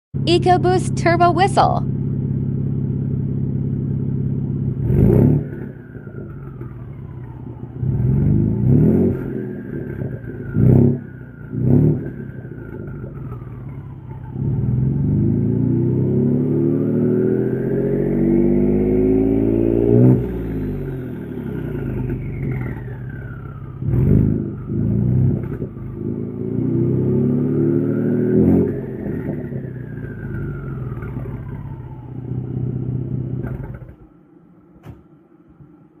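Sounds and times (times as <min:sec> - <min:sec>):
car engine revving: 0:01.9 - 0:34.4.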